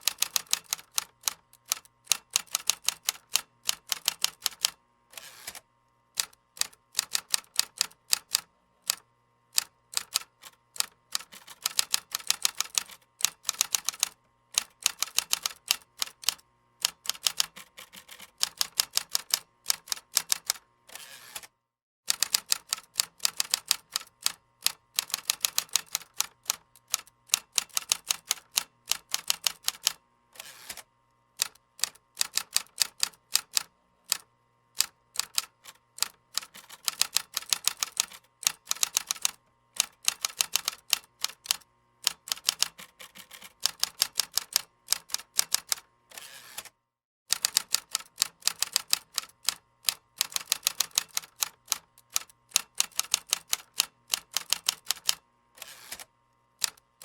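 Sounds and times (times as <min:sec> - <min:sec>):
computer keyboard typing: 0:00.0 - 0:04.8, 0:06.2 - 0:09.0, 0:09.6 - 0:20.6, 0:22.1 - 0:30.0, 0:31.4 - 0:34.2, 0:34.8 - 0:45.8, 0:47.3 - 0:55.2.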